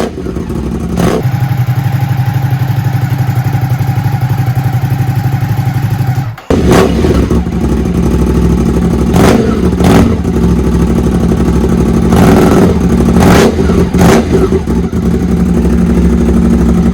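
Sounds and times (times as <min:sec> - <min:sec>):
motorcycle engine idling and revving: 0:00.0 - 0:16.9.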